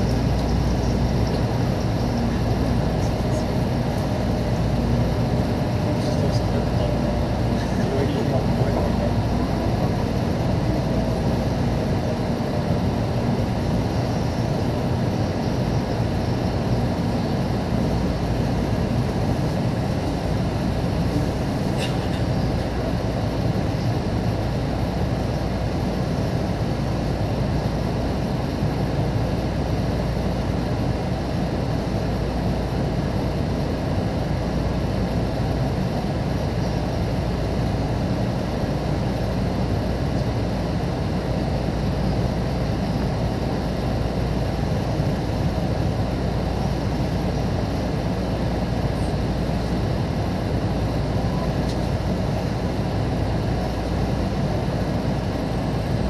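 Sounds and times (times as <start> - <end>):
train cabin low rumble with hiss: 0.0 - 56.0.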